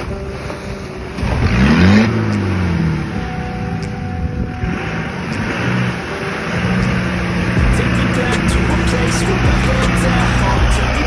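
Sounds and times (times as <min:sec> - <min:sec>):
engine revving: 0:01.2 - 0:03.7, 0:04.5 - 0:11.0.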